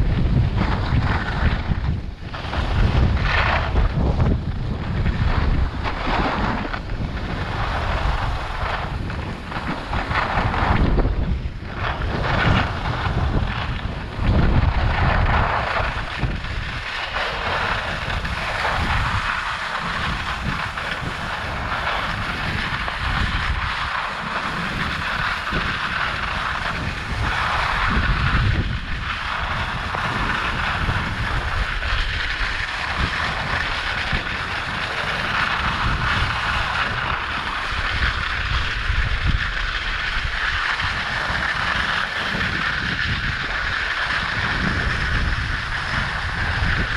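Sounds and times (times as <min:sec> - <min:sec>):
skis scraping on snow: 0:00.0 - 0:46.9
wind buffeting microphone: 0:00.0 - 0:46.9.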